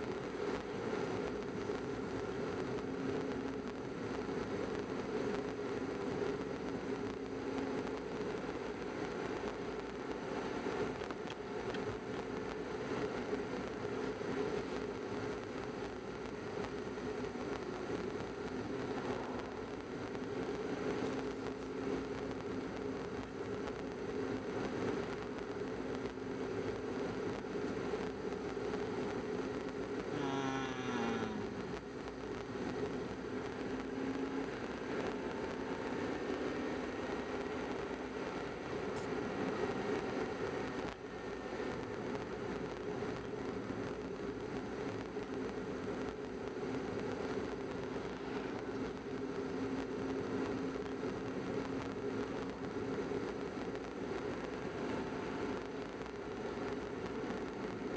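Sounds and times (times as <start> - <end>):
car engine and tyres hum: 0.0 - 57.9.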